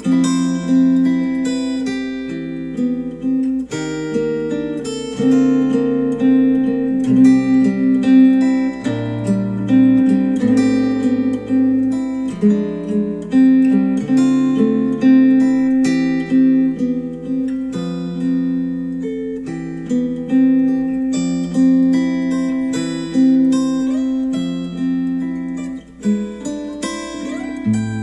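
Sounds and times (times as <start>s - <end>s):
picked string instrumental music: 0.0s - 28.0s.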